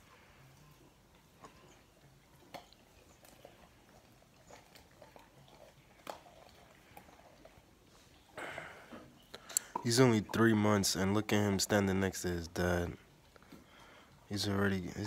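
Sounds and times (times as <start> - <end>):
dog chewing fish crunching: 0.0 - 8.4, 9.0 - 15.0.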